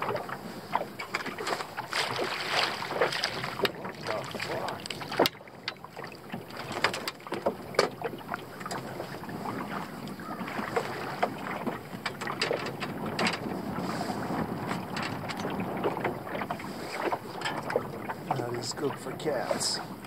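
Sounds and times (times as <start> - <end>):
water lapping against canoe: 0.0 - 20.0
wind buffeting microphone: 0.0 - 20.0.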